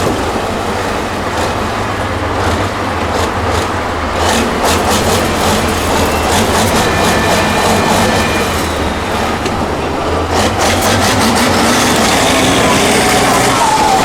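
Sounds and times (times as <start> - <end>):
clanks and knocks: 0.0 - 13.3
truck engine running: 0.0 - 14.0.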